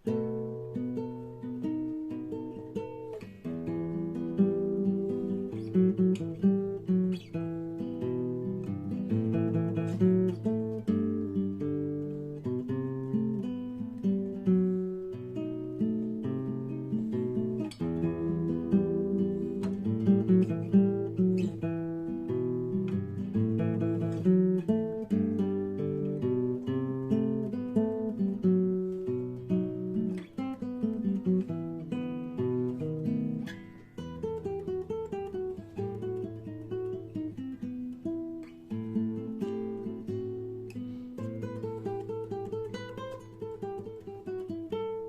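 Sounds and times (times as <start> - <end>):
acoustic guitar playing: 0.0 - 45.0.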